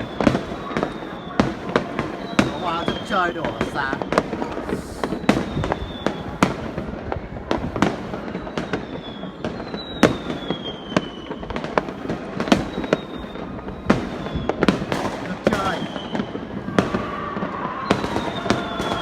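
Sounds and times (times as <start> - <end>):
falling firework whistles: 0.0 - 19.0
fireworks sharp bangs: 0.0 - 19.0
rumble of distant fireworks: 0.0 - 19.0.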